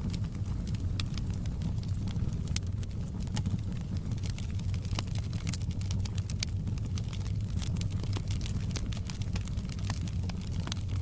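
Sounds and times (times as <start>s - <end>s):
low rumble of flames: 0.0s - 11.0s
wood fire pops and snaps: 0.0s - 11.0s.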